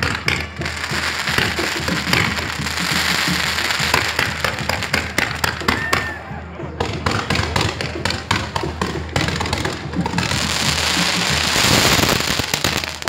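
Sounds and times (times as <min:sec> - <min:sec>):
firecrackers banging: 0:00.0 - 0:13.0.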